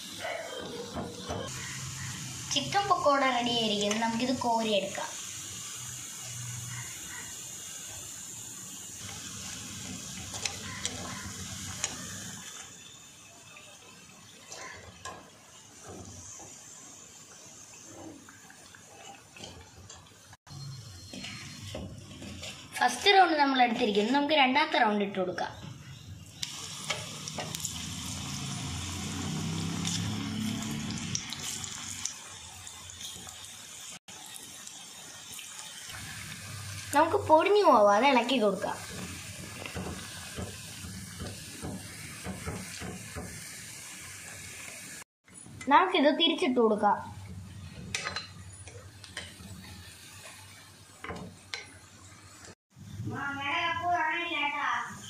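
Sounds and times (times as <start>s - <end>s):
food deep-frying in oil: 0.0s - 55.0s.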